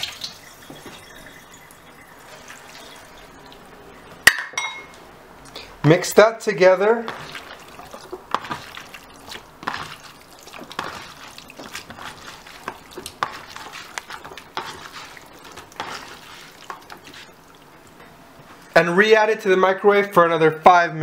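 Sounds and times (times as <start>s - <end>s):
wet squelching of hands mixing: 0.0s - 4.3s, 4.9s - 18.9s.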